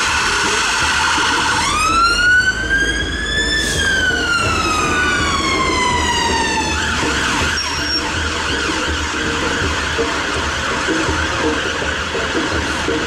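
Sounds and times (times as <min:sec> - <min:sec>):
siren rapid yelp: 0:00.0 - 0:12.5
ambulance siren wailing: 0:00.0 - 0:13.0.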